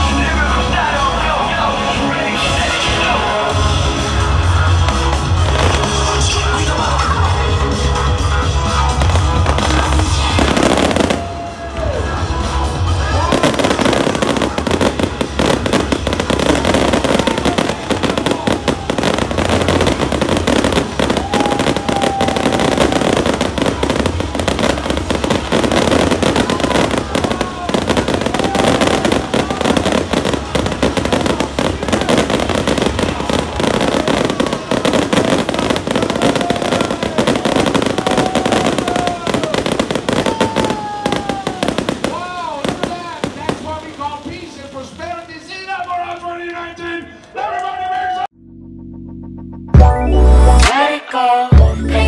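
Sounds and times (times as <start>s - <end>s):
fireworks bangs and crackling: 0.0s - 47.4s.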